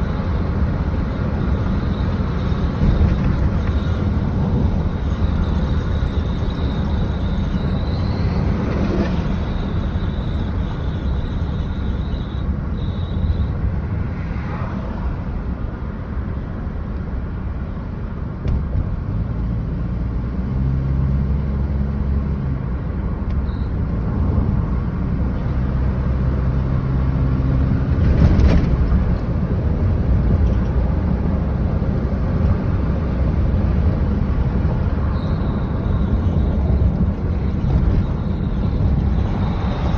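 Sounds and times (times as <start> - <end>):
road noise: 0.0 - 39.9
truck engine rumble: 0.0 - 39.9.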